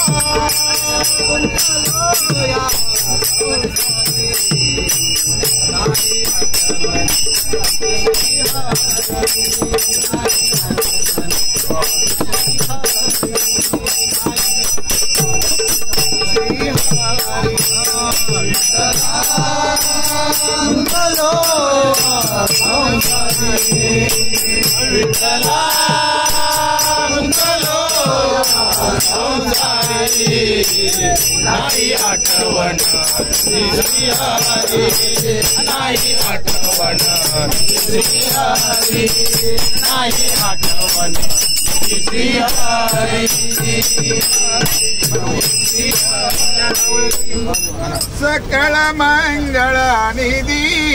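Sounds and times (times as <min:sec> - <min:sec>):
group singing devotional song: 0:00.0 - 0:48.2
hand cymbals jingling: 0:00.0 - 0:48.2.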